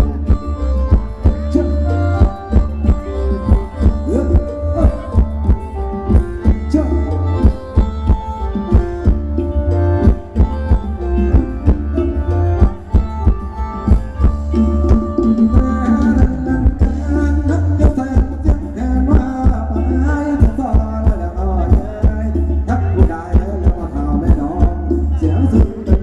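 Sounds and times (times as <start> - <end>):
sustained melodic lines: 0.0 - 23.6
steady drum beat: 0.0 - 26.0.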